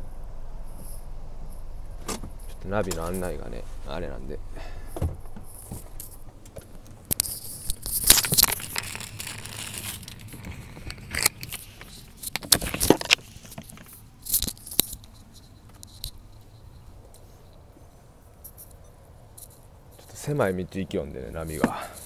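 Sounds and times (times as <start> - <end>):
rustling and crinkling handling noise: 2.3 - 20.4.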